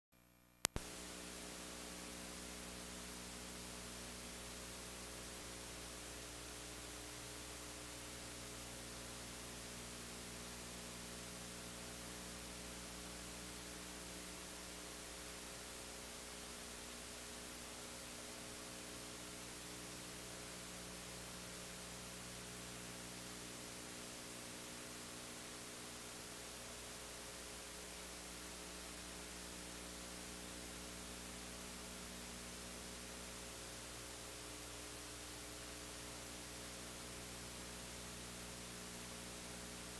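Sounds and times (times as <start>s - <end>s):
low electrical hum: 0.2s - 39.9s
steady hiss: 0.2s - 39.9s.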